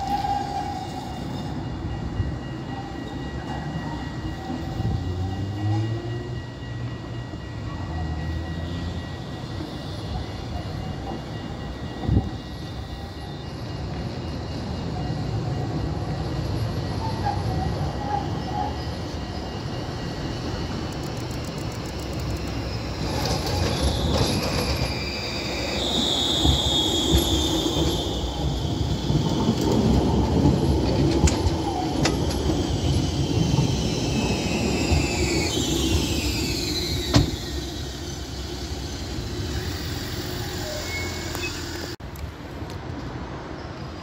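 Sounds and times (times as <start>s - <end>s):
tram wheels squealing: 0.0s - 42.0s, 43.2s - 44.0s
tram wheels rumbling on rail: 0.0s - 44.0s.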